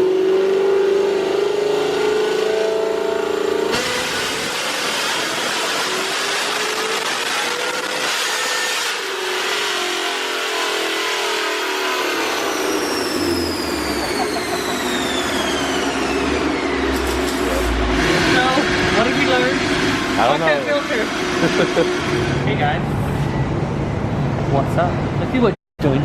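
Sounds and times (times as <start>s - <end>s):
car engine revving under load: 0.0s - 25.2s
supercharger whine: 0.0s - 25.2s.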